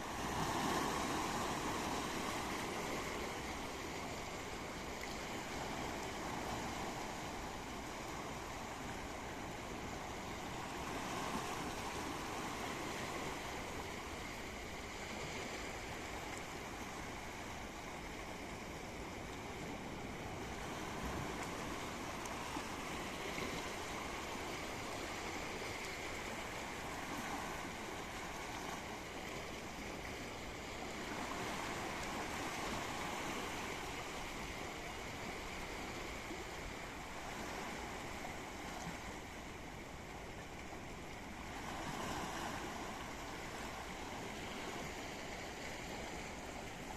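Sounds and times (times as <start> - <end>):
sea waves washing in: 0.0 - 46.9.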